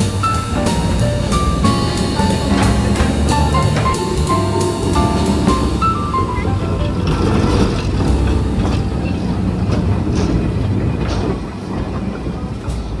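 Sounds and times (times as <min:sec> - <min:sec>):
tram rolling on rails: 0:00.0 - 0:13.0.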